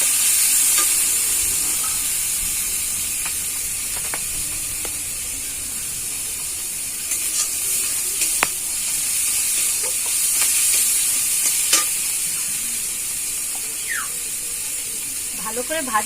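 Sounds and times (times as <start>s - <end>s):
masala sizzling in oil: 0.0s - 16.0s.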